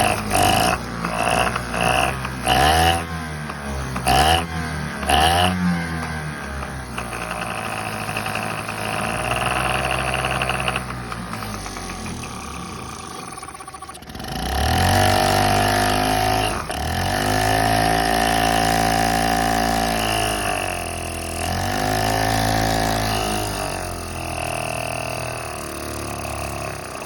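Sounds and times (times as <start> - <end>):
outboard motor revving: 0.0 - 27.0.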